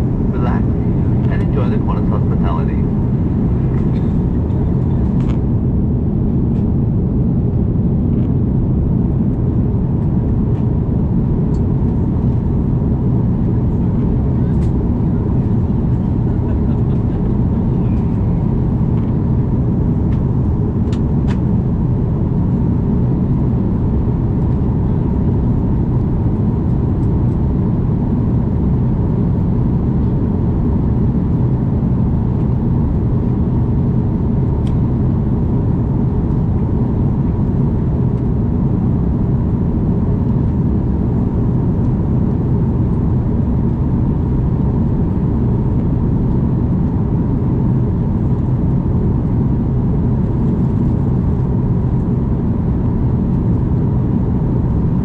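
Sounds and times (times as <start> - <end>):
rush of engines and airflow: 0.0 - 55.0.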